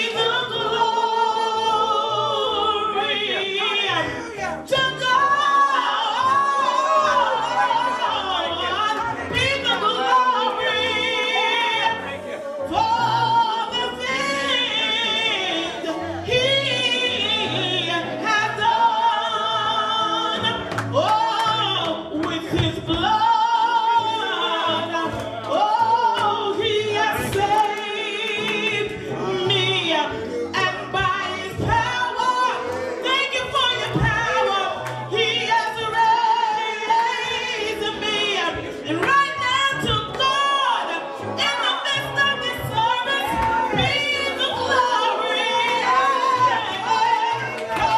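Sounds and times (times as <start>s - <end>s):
gospel singing with vibrato: 0.0s - 47.9s.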